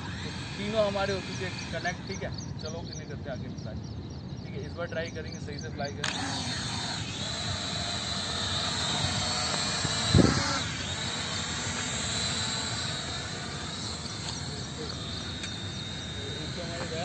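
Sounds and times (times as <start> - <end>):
toy drones whining: 0.0 - 3.2, 5.4 - 17.0.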